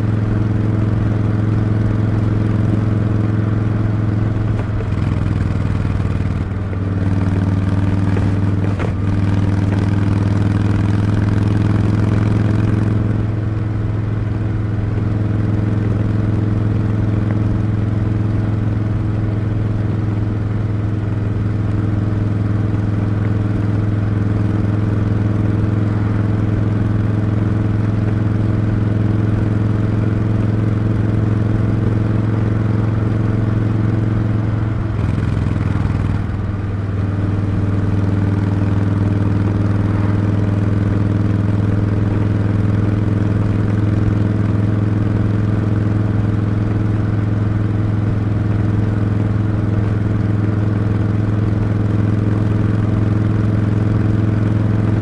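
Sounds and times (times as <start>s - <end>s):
motorcycle engine and exhaust: 0.0s - 55.0s.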